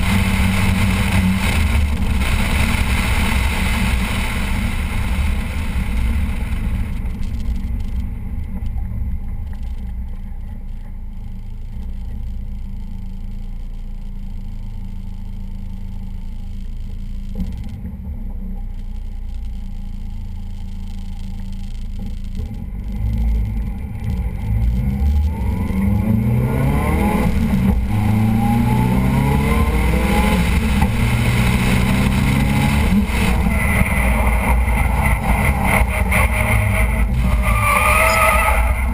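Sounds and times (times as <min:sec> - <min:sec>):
car engine revving: 0:00.0 - 0:08.4, 0:09.5 - 0:38.9.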